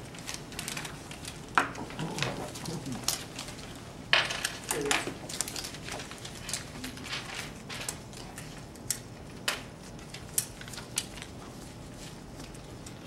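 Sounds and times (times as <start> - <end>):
papers rustling: 0.0 - 13.0.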